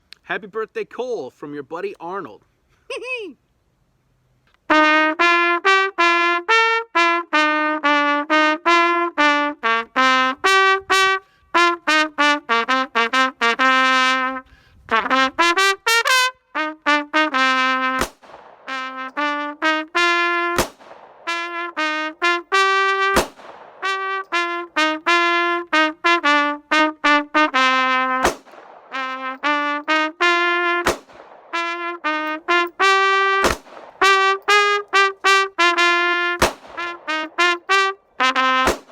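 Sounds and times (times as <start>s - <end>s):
trumpet playing fast melody: 4.6s - 38.9s.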